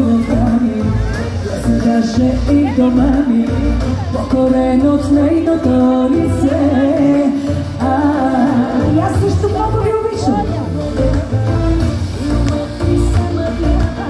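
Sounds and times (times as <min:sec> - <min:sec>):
amplified backing music with bass: 0:00.0 - 0:14.0
woman singing: 0:00.0 - 0:14.0.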